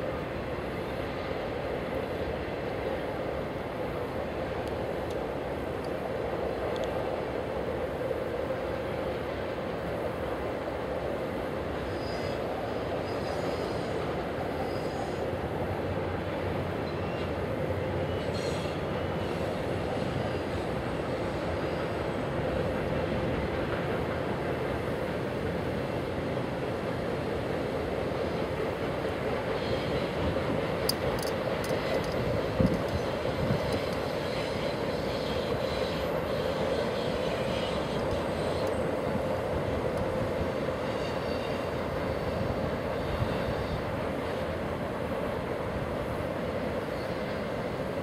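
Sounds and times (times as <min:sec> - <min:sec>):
steel wheels rumbling on rail: 0:00.0 - 0:48.0.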